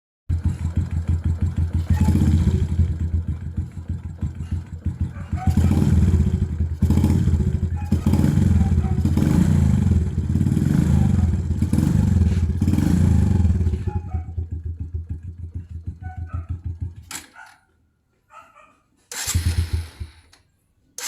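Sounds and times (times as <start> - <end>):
motorcycle engine running: 0.3 - 17.2, 19.1 - 20.3.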